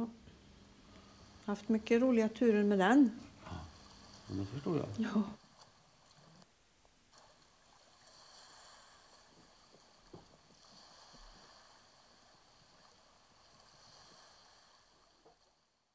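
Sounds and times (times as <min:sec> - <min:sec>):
faint steady hiss: 0:00.0 - 0:15.9.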